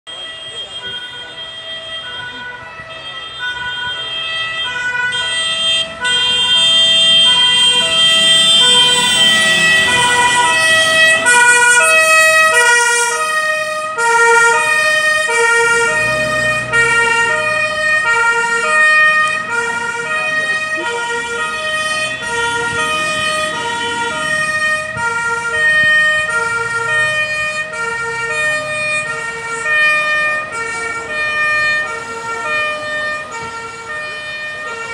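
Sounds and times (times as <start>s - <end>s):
two-tone fire engine siren: 0.0s - 34.9s.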